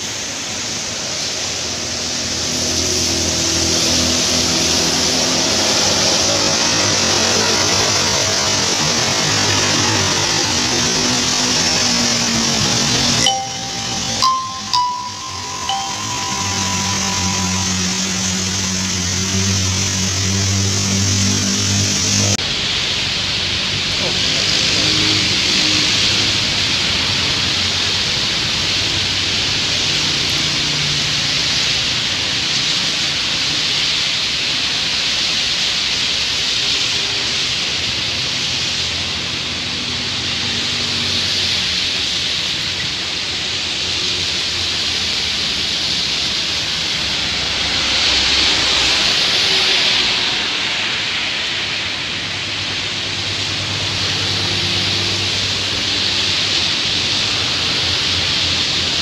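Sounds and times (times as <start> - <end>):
vehicles passing on wet road: 0.0 - 13.2, 19.1 - 59.0.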